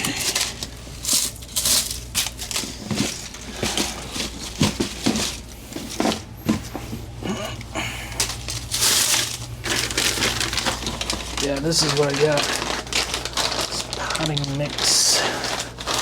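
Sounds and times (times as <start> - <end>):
low steady hum: 0.0 - 16.0
rustling and crinkling: 0.0 - 16.0.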